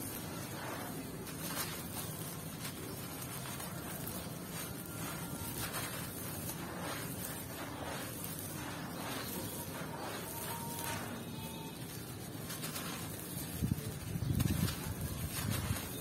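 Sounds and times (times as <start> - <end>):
grit pouring onto gravel: 0.0 - 16.0.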